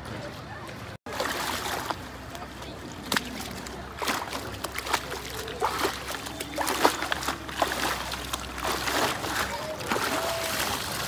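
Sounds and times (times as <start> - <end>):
water splashing and sloshing: 0.0 - 11.0
water streaming through net mesh: 1.1 - 11.0.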